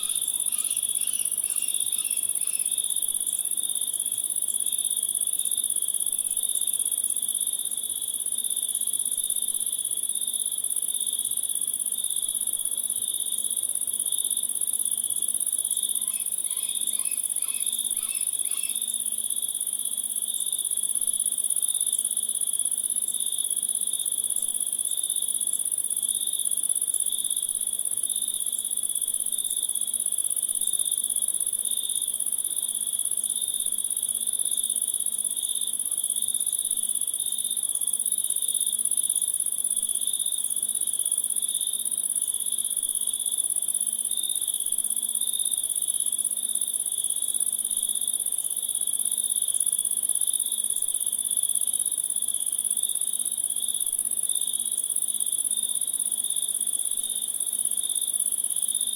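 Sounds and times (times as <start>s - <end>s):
lower pulsing insect trill: 0.0s - 9.2s, 13.0s - 58.9s
high continuous insect trill: 0.0s - 58.9s.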